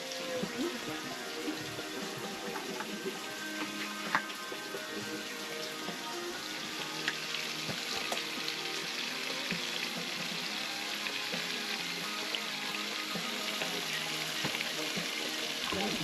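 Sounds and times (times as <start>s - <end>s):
meat and vegetables sizzling in pan: 0.0s - 16.0s.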